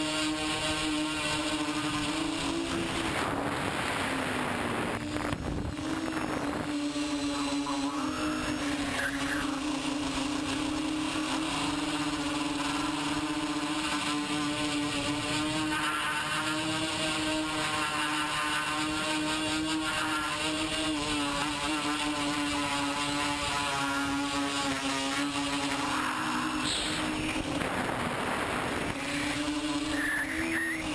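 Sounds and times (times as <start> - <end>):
quadcopter motors buzzing: 0.0 - 30.9.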